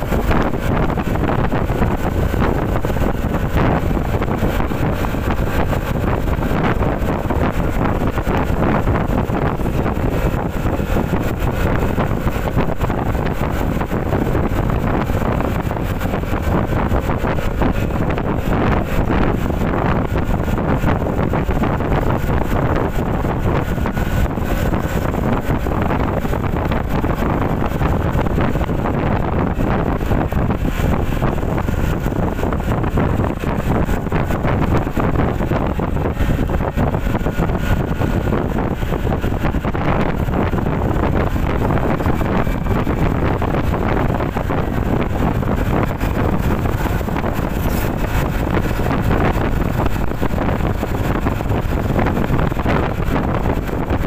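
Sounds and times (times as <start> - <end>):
road noise: 0.0 - 54.0
scooter engine: 0.0 - 54.0
wind buffeting microphone: 0.0 - 54.0.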